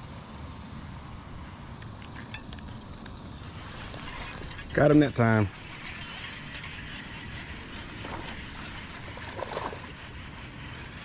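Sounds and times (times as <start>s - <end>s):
wind: 0.0s - 11.0s
water noise: 1.0s - 11.0s.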